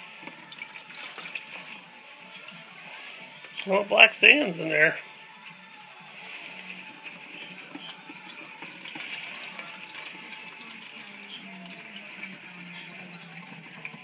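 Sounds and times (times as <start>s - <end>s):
water sloshing in plastic pan: 0.1s - 3.7s, 6.2s - 14.0s.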